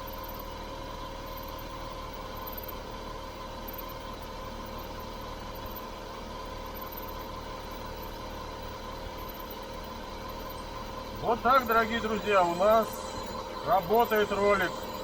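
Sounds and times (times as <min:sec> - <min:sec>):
whistling belt pulley: 0:00.0 - 0:02.9, 0:03.5 - 0:15.0
engine idling: 0:00.0 - 0:15.0.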